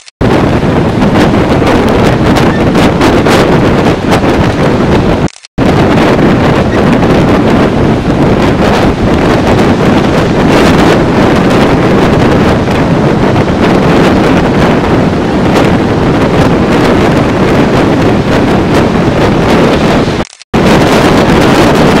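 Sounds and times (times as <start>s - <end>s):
breaking surf: 0.0s - 22.0s
wind buffeting microphone: 0.2s - 22.0s.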